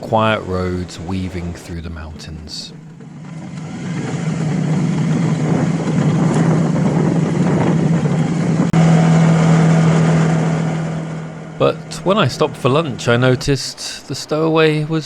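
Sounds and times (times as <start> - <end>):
motorcycle engine cruising: 0.0 - 15.0
wind and road rush: 0.0 - 15.0.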